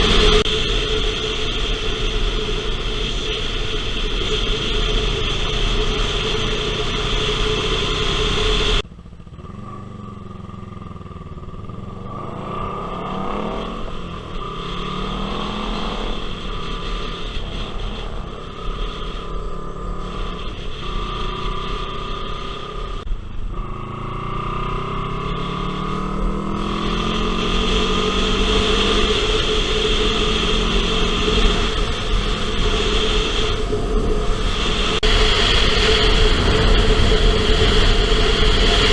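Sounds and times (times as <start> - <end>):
loud rushing noise: 0.0 - 8.8, 11.7 - 38.9
motorcycle engine accelerating: 0.0 - 38.9.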